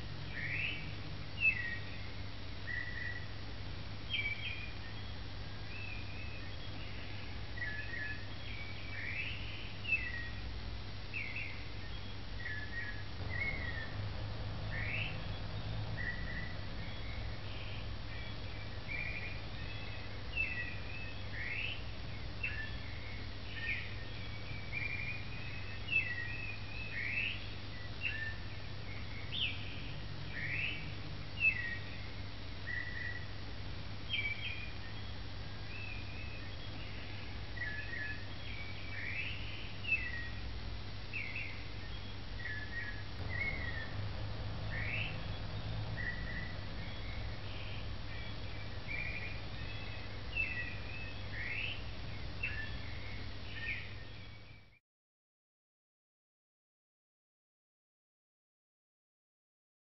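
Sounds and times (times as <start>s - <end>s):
steady low hum: 0.0s - 54.7s
birds chirping: 0.0s - 54.8s.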